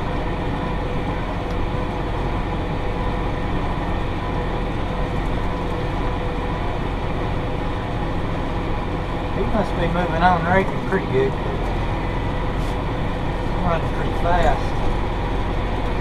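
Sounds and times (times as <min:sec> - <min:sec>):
steady whine: 0:00.0 - 0:16.0
tractor diesel engine running: 0:00.0 - 0:16.0.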